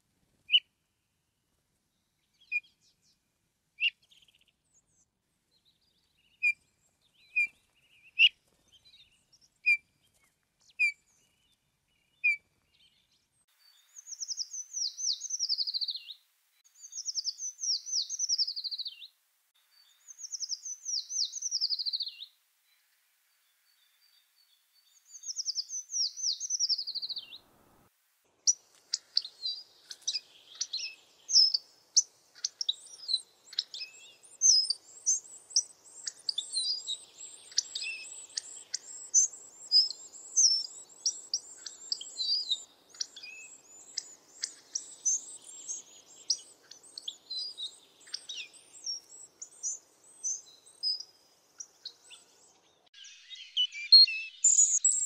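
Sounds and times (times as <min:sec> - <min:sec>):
songbirds singing: 0:01.8 - 0:27.8, 0:28.4 - 0:55.0.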